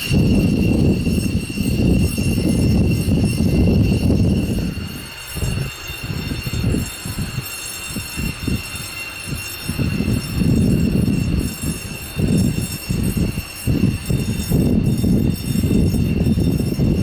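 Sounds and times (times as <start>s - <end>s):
high-pitched turbine whine: 0.0s - 17.0s.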